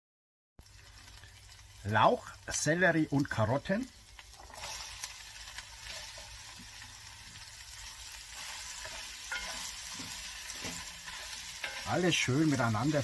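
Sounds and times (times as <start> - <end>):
vegetables sizzling in fat: 0.6 - 13.0.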